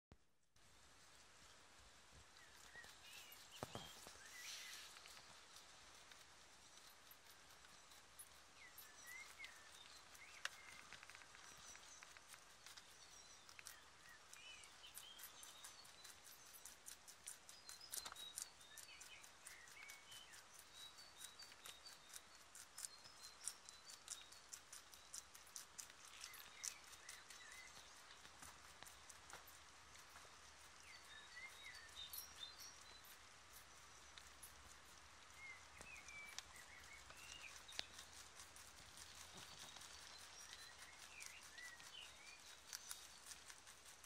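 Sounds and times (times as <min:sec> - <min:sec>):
rabbit chewing: 0:00.6 - 0:44.0.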